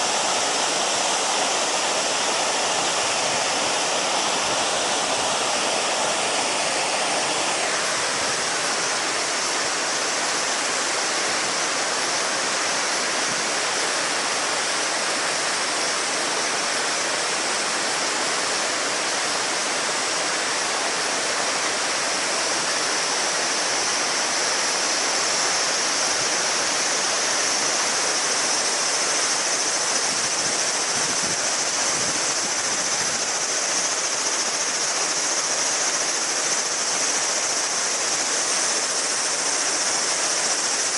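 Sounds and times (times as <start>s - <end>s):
cicadas shrilling: 0.0s - 40.9s
river rushing over stones: 0.0s - 40.9s.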